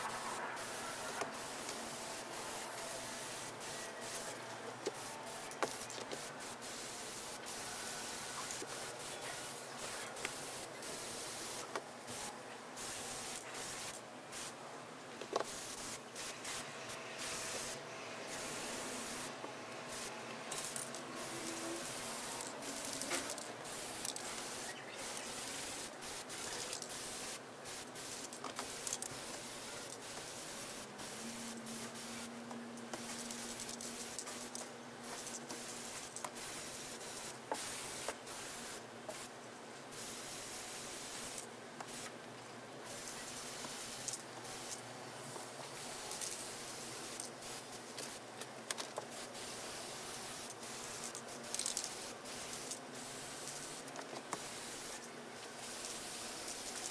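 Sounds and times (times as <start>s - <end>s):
spray paint can hissing: 0.0s - 14.6s, 15.4s - 32.3s, 33.0s - 39.3s, 39.9s - 42.1s, 42.9s - 44.8s, 45.7s - 48.2s, 49.0s - 56.9s.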